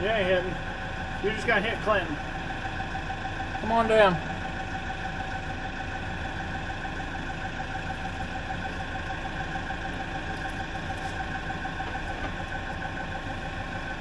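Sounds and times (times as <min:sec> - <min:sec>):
forklift engine idling: 0:00.0 - 0:14.0.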